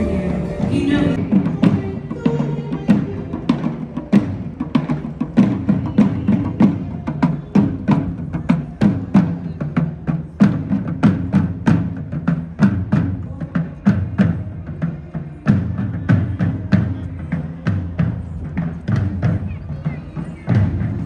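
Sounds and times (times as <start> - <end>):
marching side drums: 0.0 - 21.0.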